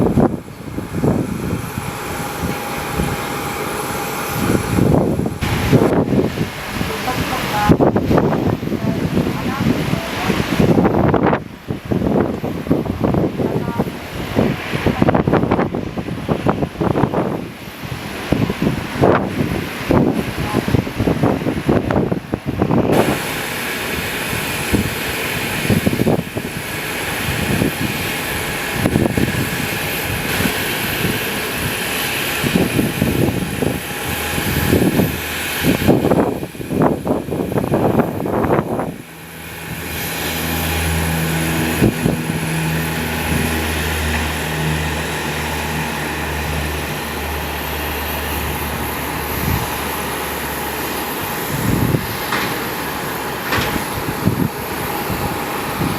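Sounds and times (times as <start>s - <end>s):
aircraft engines running: 0.0s - 55.9s
wind buffeting microphone: 0.0s - 55.9s.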